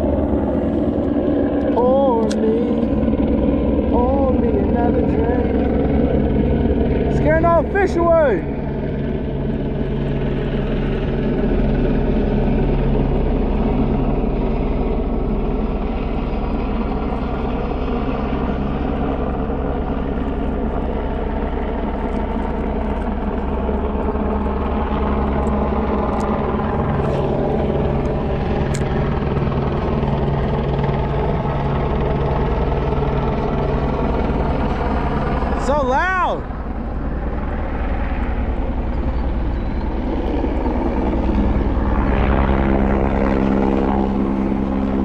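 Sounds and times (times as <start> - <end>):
helicopter engine whine: 0.0 - 45.0
helicopter rotor beating: 0.0 - 45.0.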